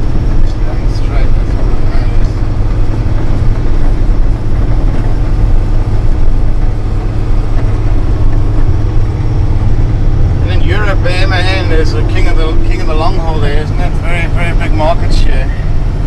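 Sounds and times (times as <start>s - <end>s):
diesel truck engine droning: 0.0s - 16.0s
road noise: 0.0s - 16.0s.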